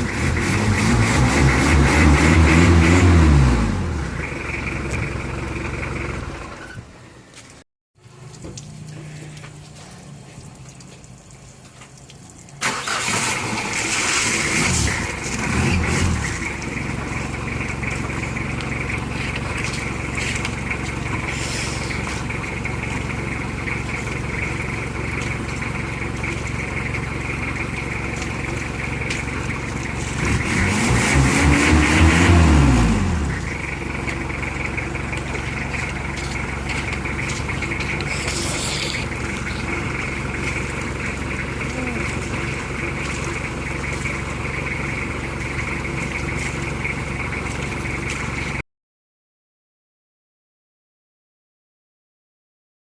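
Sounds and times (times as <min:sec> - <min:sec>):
car engine starting and revving: 0:00.0 - 0:06.8, 0:12.6 - 0:48.5.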